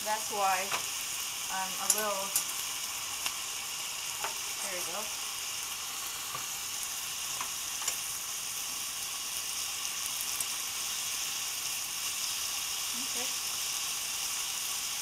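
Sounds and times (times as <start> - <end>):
meat frying in a pan: 0.0 - 15.0.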